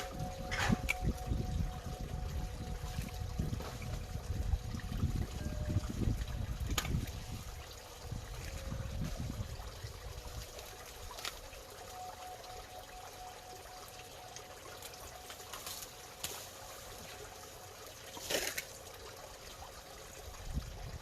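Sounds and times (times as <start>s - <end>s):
faint steady hum: 0.0s - 21.0s
water bubbling and trickling: 0.0s - 21.0s.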